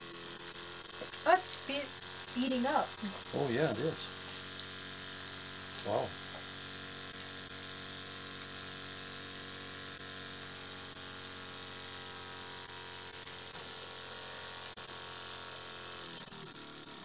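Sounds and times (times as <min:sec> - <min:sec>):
model steam engine buzzing: 0:00.0 - 0:17.0.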